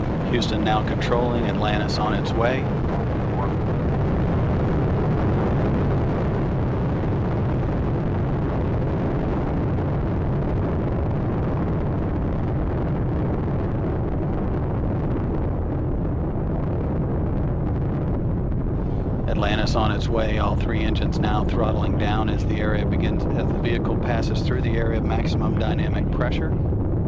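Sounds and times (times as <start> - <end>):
rocket engines roaring: 0.0 - 27.0.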